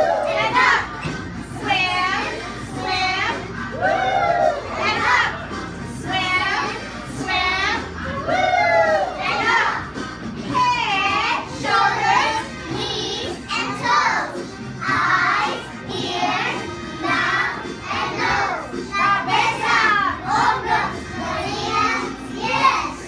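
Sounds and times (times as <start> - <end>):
children singing: 0.0 - 23.0
music accompaniment: 0.0 - 23.0.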